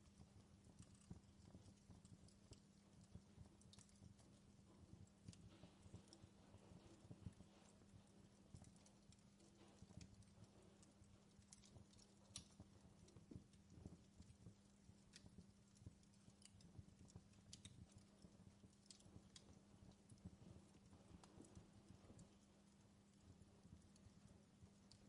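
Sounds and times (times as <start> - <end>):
campfire crackling: 0.0 - 25.0
faint steady hum: 0.0 - 25.0.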